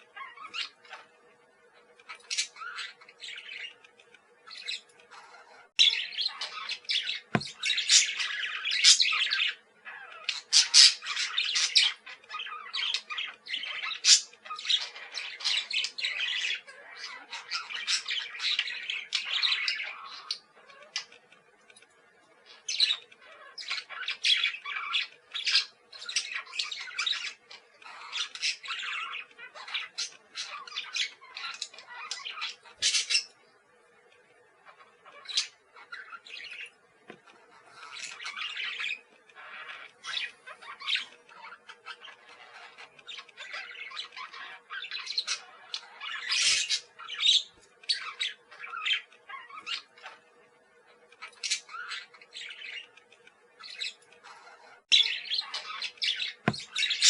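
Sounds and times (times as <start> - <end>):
parakeets chattering and squawking: 0.0 - 57.0.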